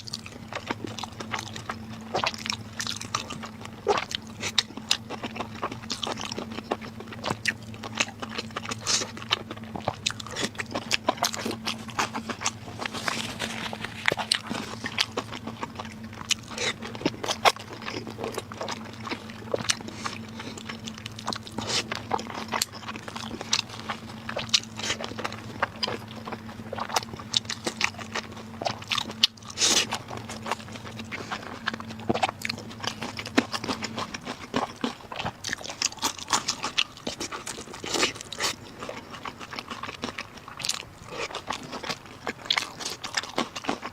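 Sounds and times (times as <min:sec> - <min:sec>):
faint low hum: 0:00.0 - 0:43.9
person chewing crunchy food: 0:00.0 - 0:43.9.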